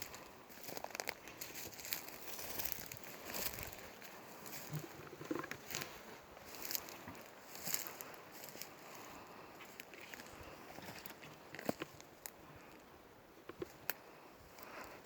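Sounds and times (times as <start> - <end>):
footsteps on forest floor: 0.0 - 12.8.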